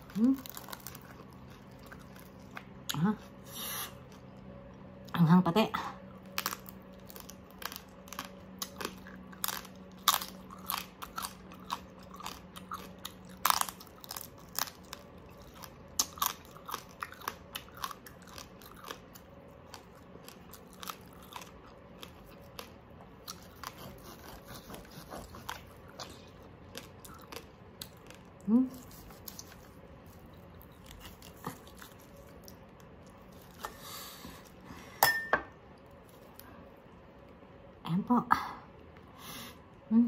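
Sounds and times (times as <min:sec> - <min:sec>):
chewing crispy pork crackling: 0:00.0 - 0:05.2, 0:06.0 - 0:34.8.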